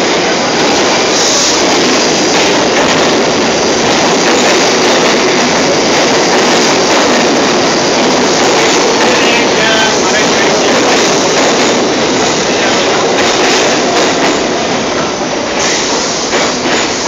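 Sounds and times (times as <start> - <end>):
subway train wheels rattling: 0.0 - 17.0.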